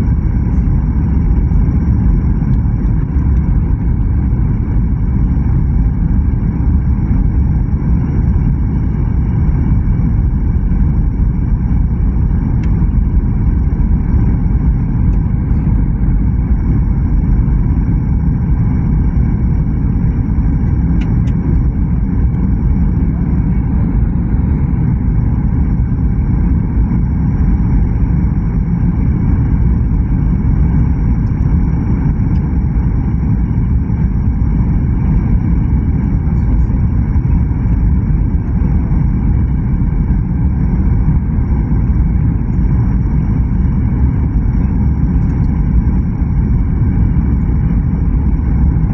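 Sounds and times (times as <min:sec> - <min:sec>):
airliner cabin engine roar: 0:00.0 - 0:48.9
faint high whine: 0:00.0 - 0:48.9.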